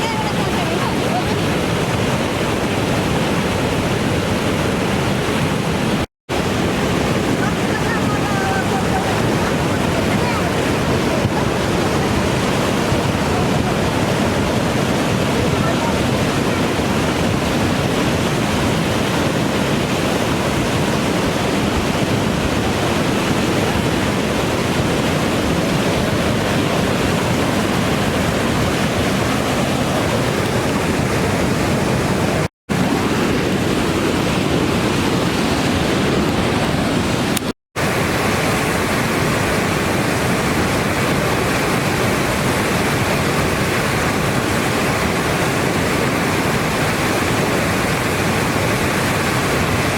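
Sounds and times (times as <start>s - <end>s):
roar of flooded river: 0.0s - 49.9s.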